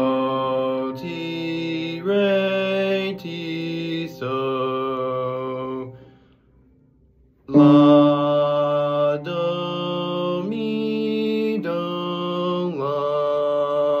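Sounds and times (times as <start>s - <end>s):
man singing long held notes: 0.0s - 6.1s, 7.5s - 14.0s.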